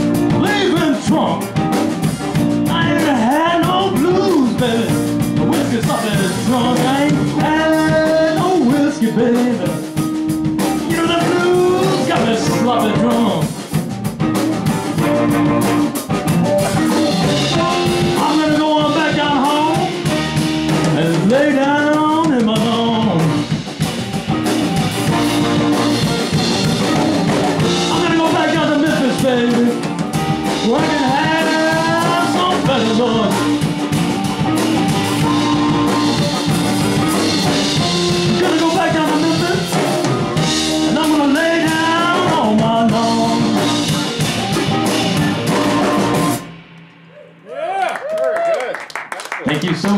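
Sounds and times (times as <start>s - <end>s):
blues band playing: 0.0s - 49.9s.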